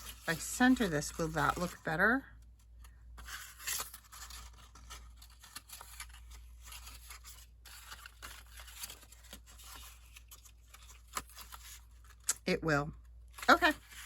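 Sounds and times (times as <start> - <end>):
paper rustling and scraping: 0.0 - 12.3, 13.2 - 14.0.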